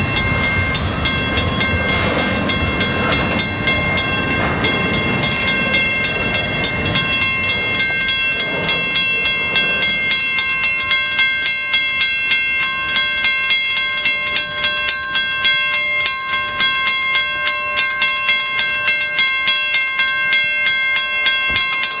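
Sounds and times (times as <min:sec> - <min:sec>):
crossing bell ringing: 0:00.0 - 0:22.0
freight train rumbling past: 0:00.0 - 0:22.0.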